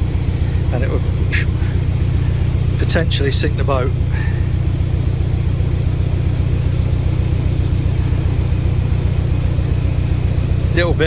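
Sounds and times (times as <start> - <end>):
diesel boat engine idling: 0.0 - 11.0.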